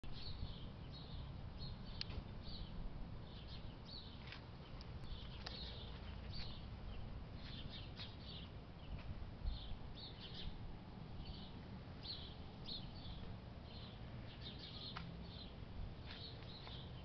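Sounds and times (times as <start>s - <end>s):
low steady rumble: 0.0s - 17.0s
small birds chirping: 0.1s - 17.0s.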